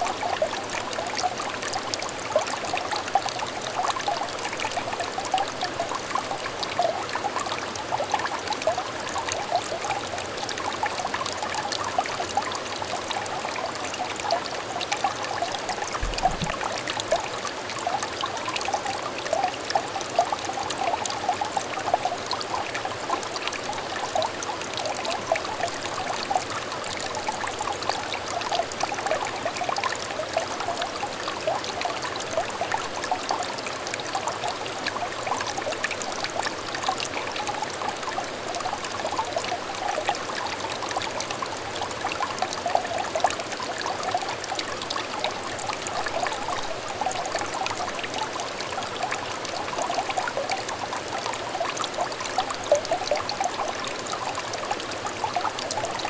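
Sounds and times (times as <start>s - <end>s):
stream trickling and babbling: 0.0s - 56.0s.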